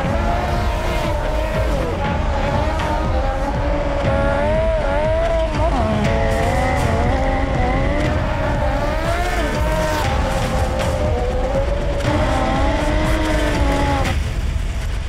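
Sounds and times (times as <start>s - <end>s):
motorcycle engine running hard: 0.0s - 15.0s.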